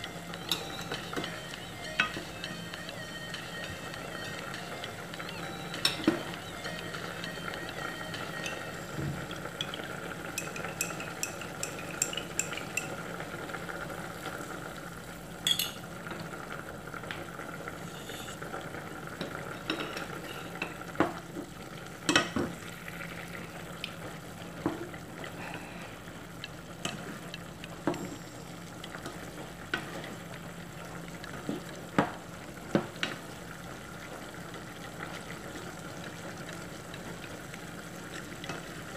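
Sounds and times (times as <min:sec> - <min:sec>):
food sizzling in a pot: 0:00.0 - 0:38.9.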